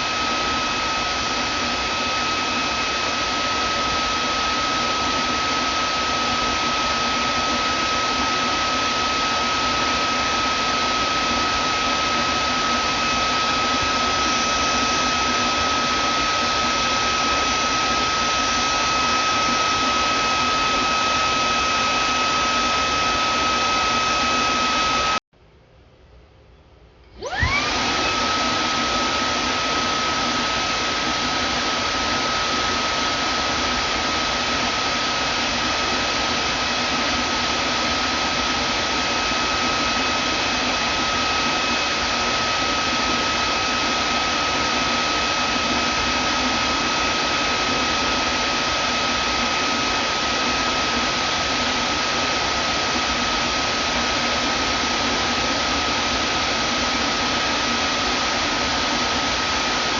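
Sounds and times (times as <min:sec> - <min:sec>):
vacuum cleaner running: 0:00.0 - 0:25.2, 0:27.1 - 0:59.9.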